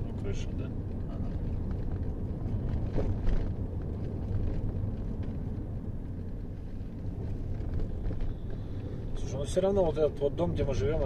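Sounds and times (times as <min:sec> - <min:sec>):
car cabin engine and tyre rumble: 0:00.0 - 0:11.0.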